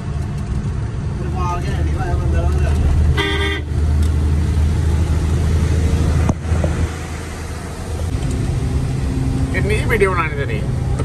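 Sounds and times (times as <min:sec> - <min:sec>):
road and rain noise: 0:00.0 - 0:11.0.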